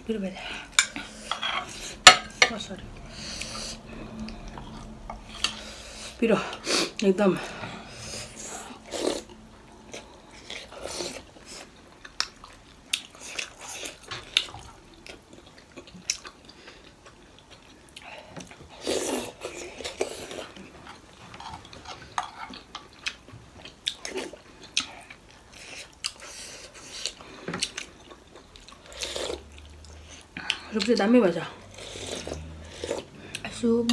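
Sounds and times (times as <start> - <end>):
person chewing: 3.1 - 30.8, 31.6 - 33.9.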